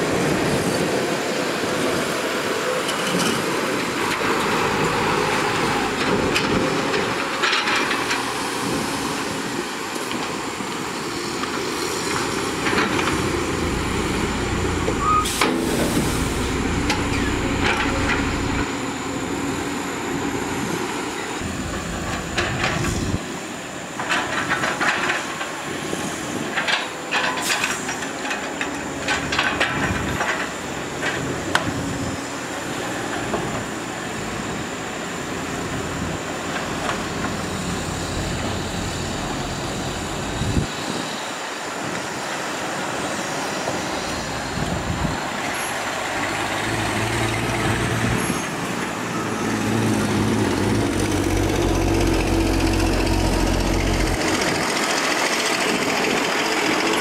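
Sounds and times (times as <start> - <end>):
diesel machinery rumble: 0.0 - 57.0.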